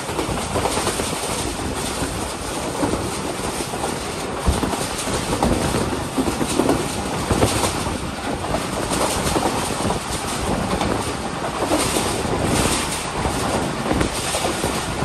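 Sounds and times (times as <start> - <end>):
train wheels rumbling on rails: 0.0 - 15.0
wind rushing past microphone: 0.0 - 15.0.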